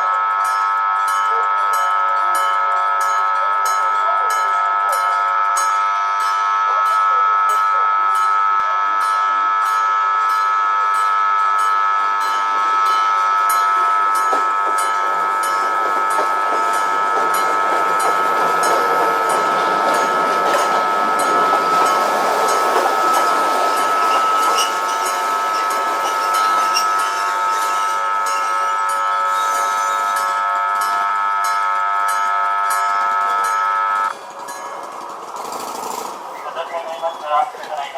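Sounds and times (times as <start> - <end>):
level crossing bell ringing: 0.0 - 35.0
tram passing: 0.0 - 37.9.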